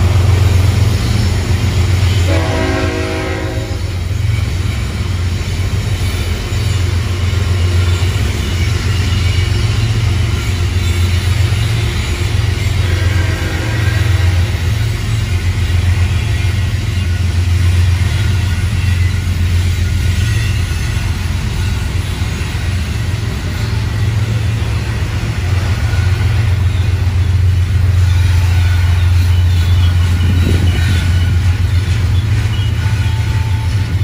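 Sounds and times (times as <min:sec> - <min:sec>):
steel wheels rumbling on rails: 0:00.0 - 0:34.0.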